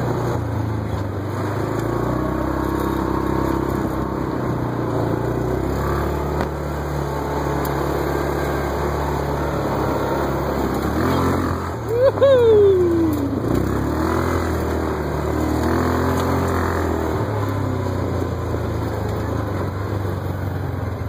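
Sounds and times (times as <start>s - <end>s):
utility vehicle engine running: 0.0s - 21.0s
wind and tyre noise: 0.0s - 21.0s.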